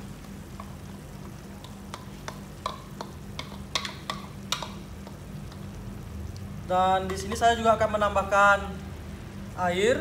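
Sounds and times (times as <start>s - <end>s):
light sizzling in pan: 0.0s - 10.0s.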